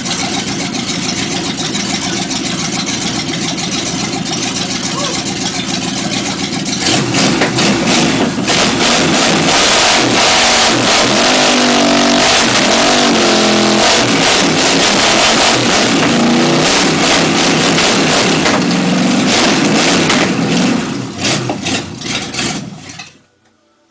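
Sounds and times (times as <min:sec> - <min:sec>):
loud car engine revving: 0:00.0 - 0:23.1.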